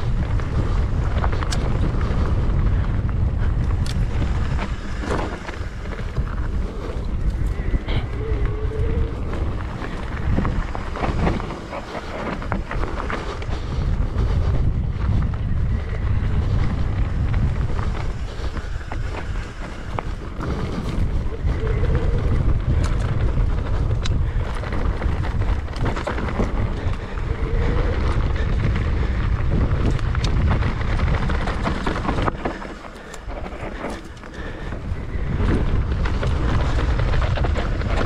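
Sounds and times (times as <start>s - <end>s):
bike clicks and rattles: 0.0s - 38.0s
wind buffeting microphone: 0.0s - 38.0s.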